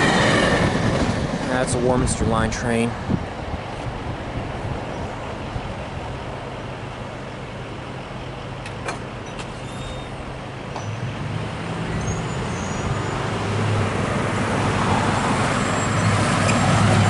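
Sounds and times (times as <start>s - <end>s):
car and truck engines passing: 2.6s - 17.0s.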